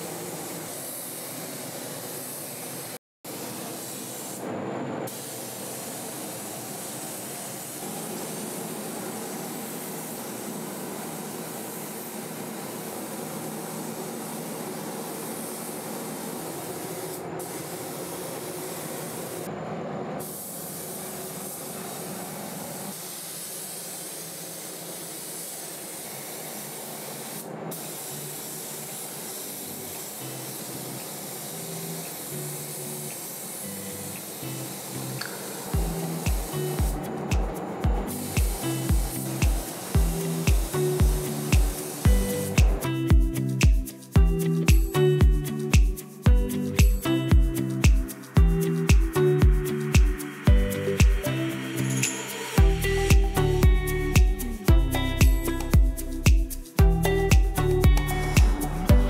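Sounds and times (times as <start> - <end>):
paint spray gun hissing: 0.0 - 4.5, 5.1 - 19.5, 20.2 - 59.0.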